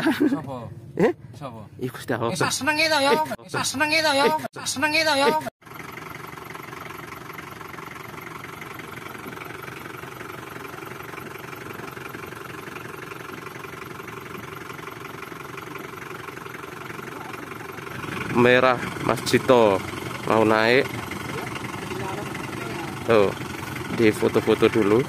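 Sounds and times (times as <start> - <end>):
jeep engine idling: 4.9 - 25.0.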